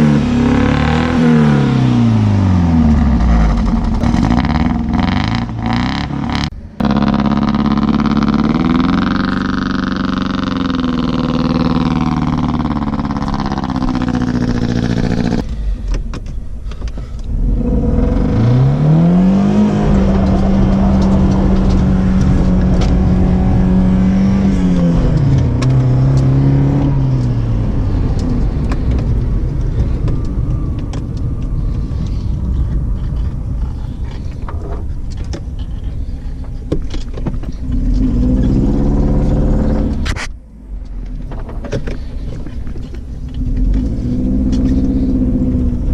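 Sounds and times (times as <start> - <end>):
car engine revving unevenly: 0.0 - 15.6, 17.2 - 45.9.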